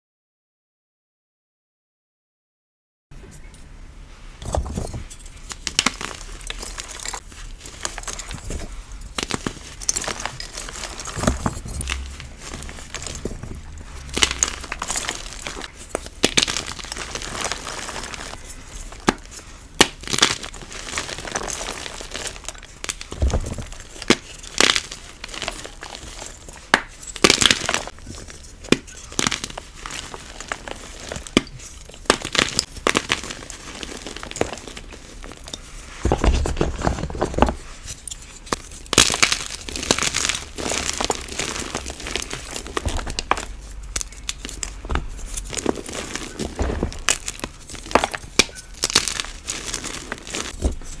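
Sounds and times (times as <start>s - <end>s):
chalk cubes being crushed: 4.4s - 51.0s.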